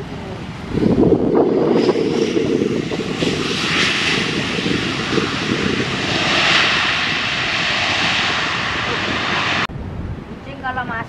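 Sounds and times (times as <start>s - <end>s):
jet engines roaring: 0.0s - 9.7s.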